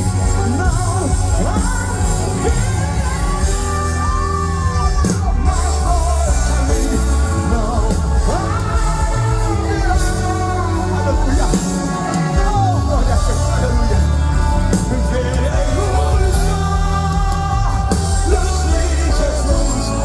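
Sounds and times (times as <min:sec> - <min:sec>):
worship band music: 0:00.0 - 0:20.0.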